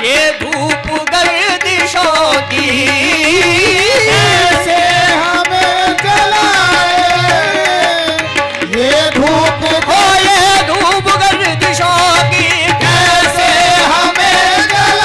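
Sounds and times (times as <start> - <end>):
wavering devotional singing: 0.0 - 15.0.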